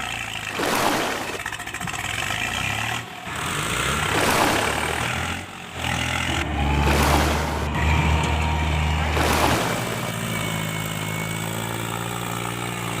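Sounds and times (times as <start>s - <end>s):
heavy vehicle engine running: 0.0s - 13.0s.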